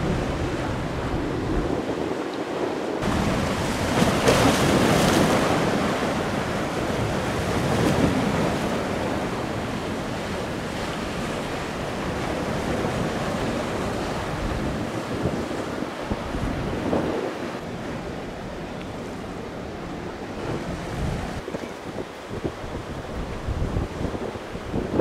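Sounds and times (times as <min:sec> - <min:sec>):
ocean surf breaking: 0:00.0 - 0:25.0
wind rumbling on microphone: 0:00.0 - 0:25.0.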